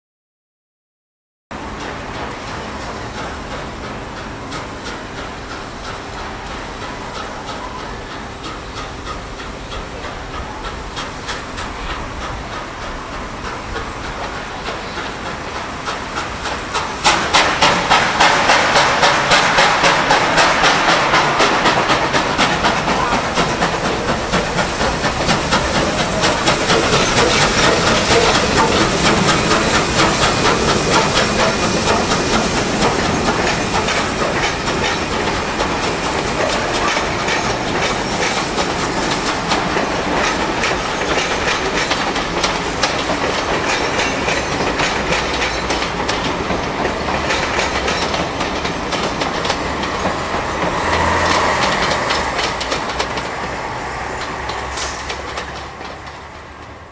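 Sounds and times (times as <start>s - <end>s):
train wheels clicking over rail joints: 1.6s - 56.9s.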